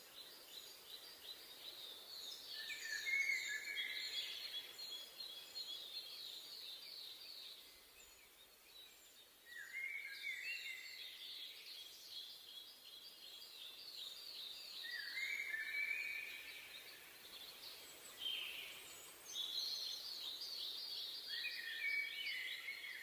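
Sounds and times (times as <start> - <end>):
faint forest ambience hiss: 0.0 - 23.0
songbirds chirping: 0.0 - 23.0.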